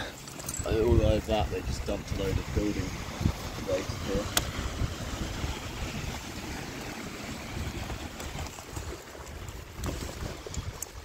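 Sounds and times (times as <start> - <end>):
sea waves on shore: 0.0 - 11.0
wind buffeting microphone: 0.6 - 11.0.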